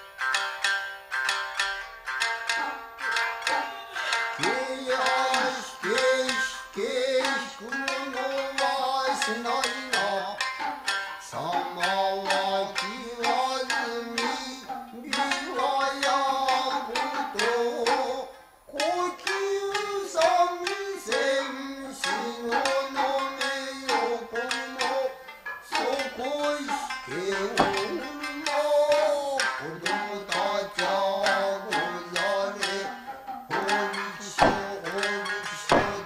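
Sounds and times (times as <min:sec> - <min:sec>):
shamisen plucking: 0:00.0 - 0:36.0
sharp percussive strikes: 0:00.0 - 0:36.0
person singing: 0:02.5 - 0:36.0.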